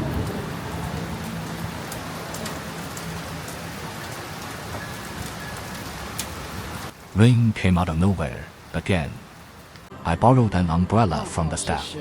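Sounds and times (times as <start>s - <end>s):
rain shower hissing: 0.0s - 9.9s
raindrop ticks: 0.0s - 9.9s.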